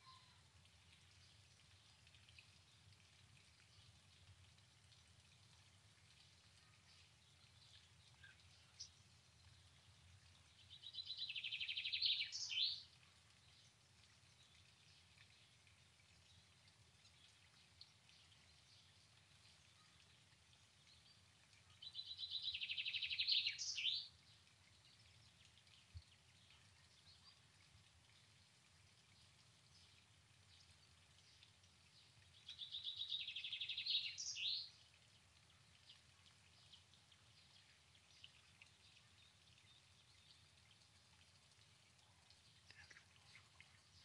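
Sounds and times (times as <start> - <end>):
faint outdoor background noise: 0.0 - 44.0.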